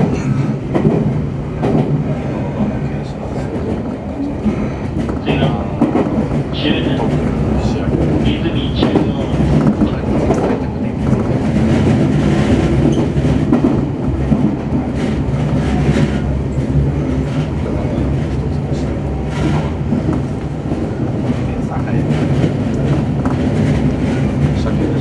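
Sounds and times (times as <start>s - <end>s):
wheels rumbling on rails: 0.0s - 25.0s.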